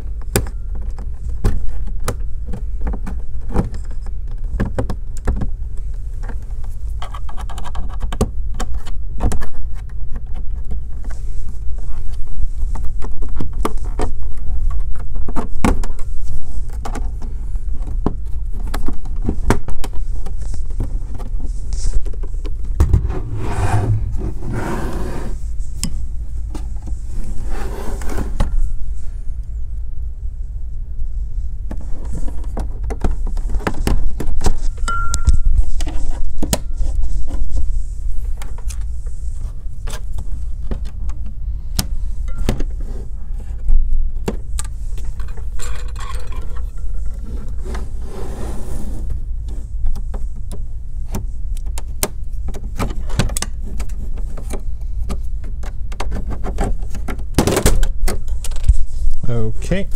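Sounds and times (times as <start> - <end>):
scraping and handling noise: 0.0 - 29.8, 30.4 - 59.9.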